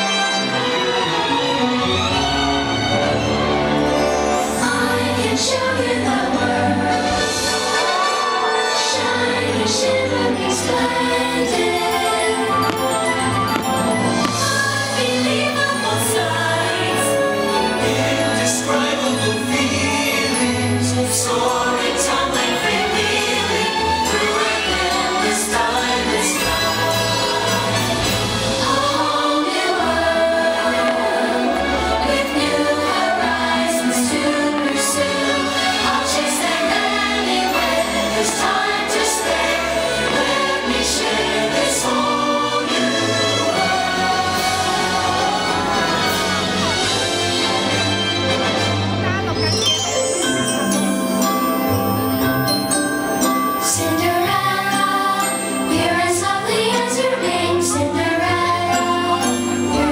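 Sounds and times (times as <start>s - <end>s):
orchestral music with choir: 0.0s - 59.9s.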